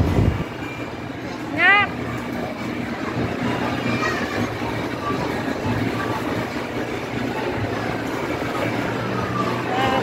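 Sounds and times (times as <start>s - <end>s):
arcade game machine sounds: 0.0s - 10.0s.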